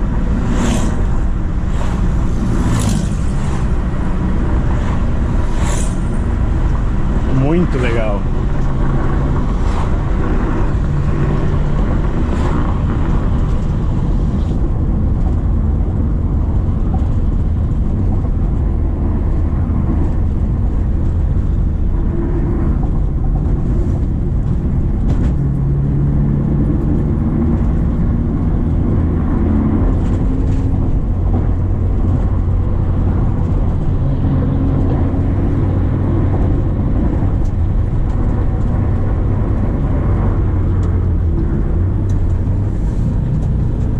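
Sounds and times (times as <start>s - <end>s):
car engine running: 0.0s - 43.9s
tyre and road noise: 0.0s - 43.9s.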